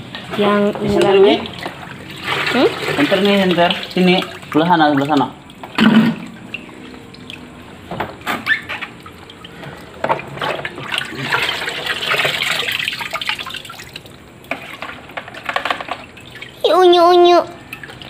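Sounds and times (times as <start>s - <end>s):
water splashing in a bucket: 0.2s - 18.0s.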